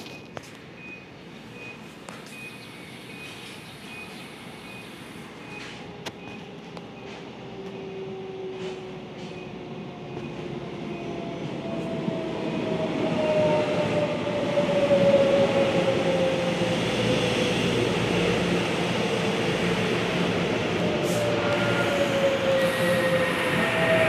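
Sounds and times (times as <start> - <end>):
freight train wheel rumble: 2.1 - 24.0.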